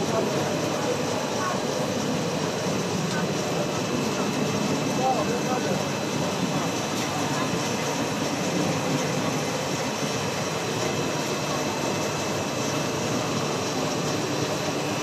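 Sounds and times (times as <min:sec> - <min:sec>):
production line machinery: 0:00.0 - 0:15.0.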